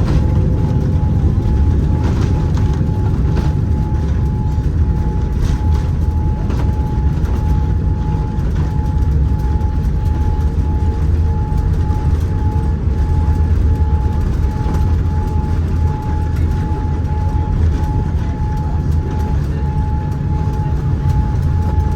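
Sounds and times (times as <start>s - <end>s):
low rumble of wheels and engines: 0.0s - 21.9s.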